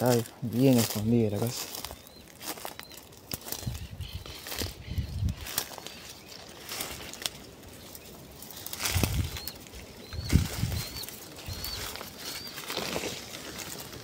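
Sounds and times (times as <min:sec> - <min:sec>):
footsteps rustling through dry scrub: 0:00.0 - 0:14.0
bird chirping: 0:00.6 - 0:06.9, 0:07.7 - 0:13.2.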